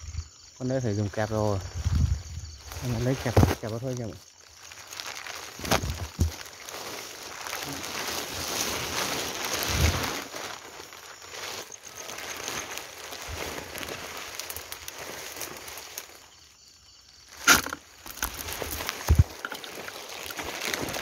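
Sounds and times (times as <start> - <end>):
leaves and twigs rustling: 1.1 - 21.0.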